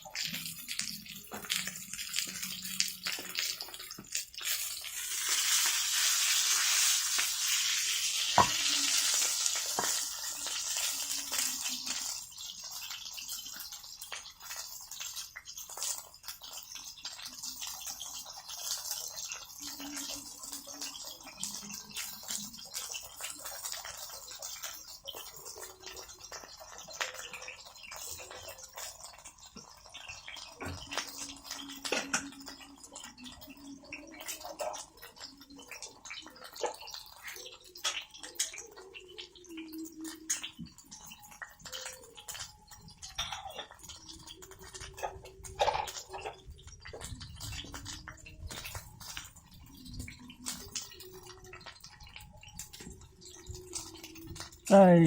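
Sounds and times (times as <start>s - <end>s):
campfire crackling and popping: 0.0s - 55.0s
food sizzling in a pan: 0.0s - 55.0s.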